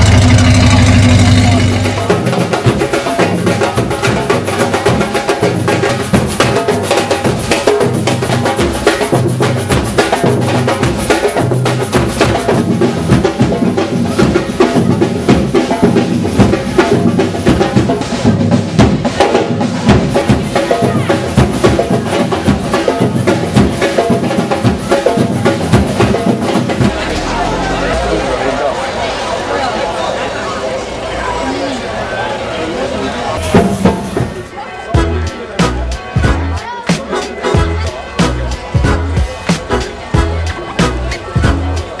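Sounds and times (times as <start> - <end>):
drum band playing: 0.0 - 29.2, 33.4 - 42.0.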